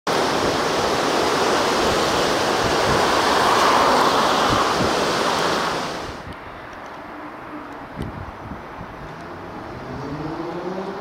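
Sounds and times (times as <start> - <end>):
wind buffeting microphone: 0.1 - 6.8, 7.8 - 10.8
wind gusting through trees: 0.1 - 11.0.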